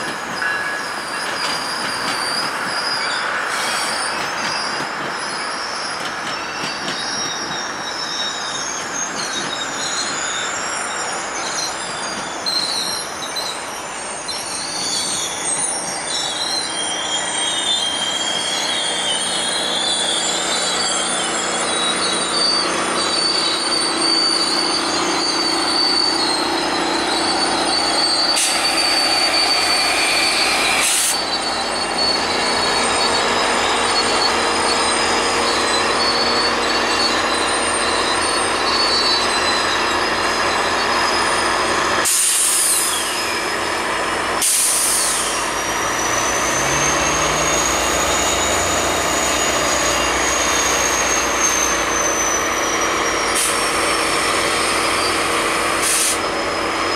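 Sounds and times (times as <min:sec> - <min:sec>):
train rumble: 0:00.0 - 0:56.9
wheels squealing on rails: 0:00.0 - 0:56.9.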